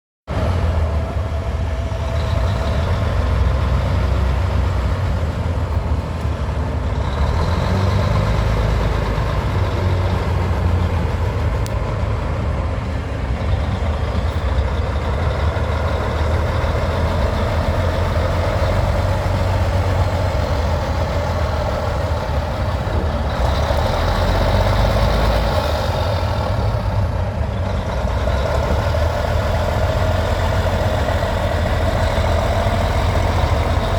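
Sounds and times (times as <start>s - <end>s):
vehicle engine idling: 0.6s - 33.9s.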